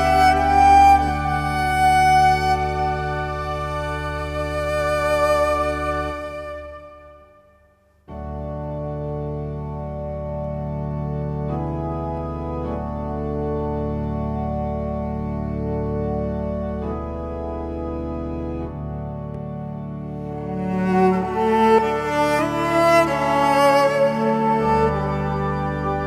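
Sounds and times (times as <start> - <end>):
sustained organ chords: 0.0 - 7.3, 7.9 - 26.0.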